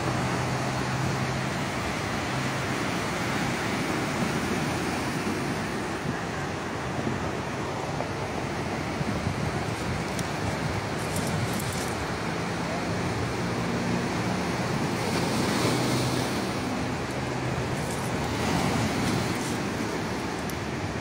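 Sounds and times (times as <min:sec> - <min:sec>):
surf washing over pebble beach: 0:00.0 - 0:21.0.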